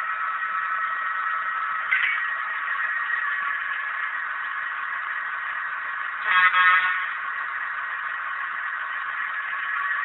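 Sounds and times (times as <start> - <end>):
model train engine sound drone: 0.0 - 10.0.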